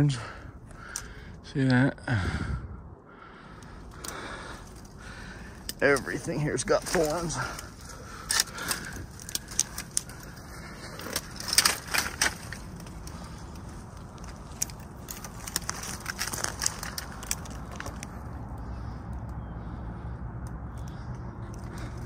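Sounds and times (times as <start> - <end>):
twigs crackling and snapping: 0.0 - 1.8, 3.2 - 22.0
steady low rumble: 0.0 - 22.0.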